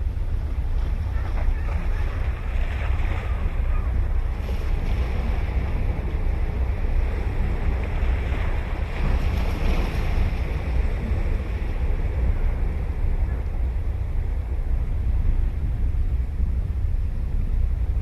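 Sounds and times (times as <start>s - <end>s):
wind rumble on microphone: 0.0s - 18.0s
ocean surf breaking: 0.7s - 15.7s.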